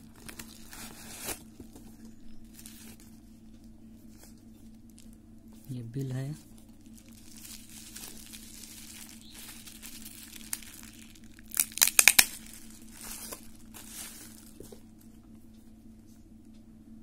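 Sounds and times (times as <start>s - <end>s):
bubble wrap crinkling: 0.0s - 15.3s.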